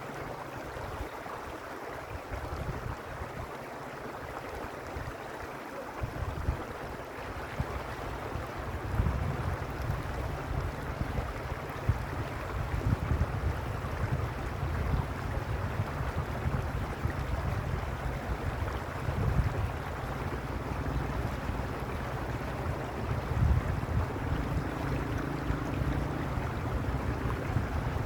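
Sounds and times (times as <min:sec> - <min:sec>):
stream water flowing: 0:00.0 - 0:28.0
wind rumbling on microphone: 0:02.1 - 0:03.6, 0:06.0 - 0:28.0.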